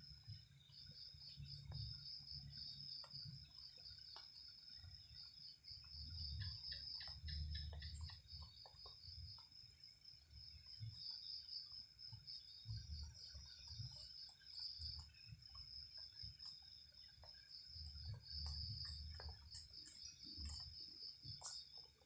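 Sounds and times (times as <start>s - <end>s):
crickets trilling: 0.0s - 22.0s
faint ticks: 0.1s - 22.0s.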